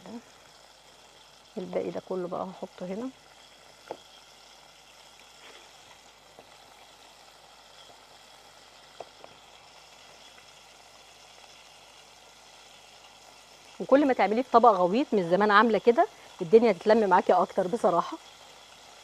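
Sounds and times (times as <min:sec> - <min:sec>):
chicken frying in oil: 0:00.0 - 0:19.0.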